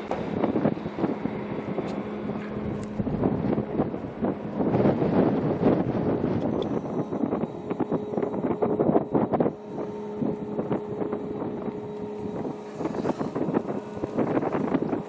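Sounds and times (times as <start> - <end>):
engine hum: 0.0 - 15.0
wind buffeting microphone: 0.0 - 15.0.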